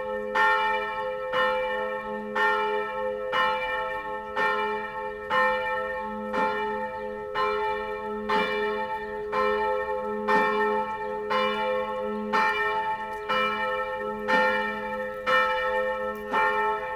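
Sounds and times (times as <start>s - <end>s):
church bells ringing: 0.0s - 16.9s.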